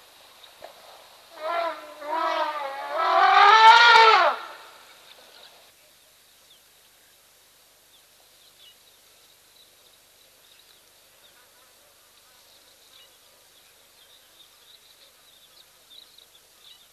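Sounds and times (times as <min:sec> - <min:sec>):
soft steady hiss: 0:00.0 - 0:16.9.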